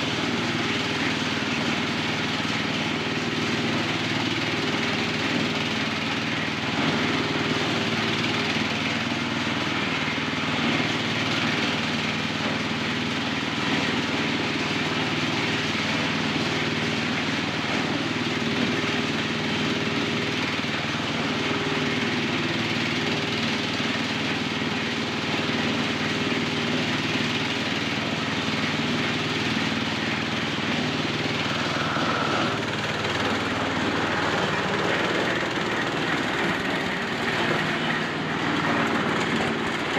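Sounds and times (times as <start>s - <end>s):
corn sheller running: 0.0s - 39.9s.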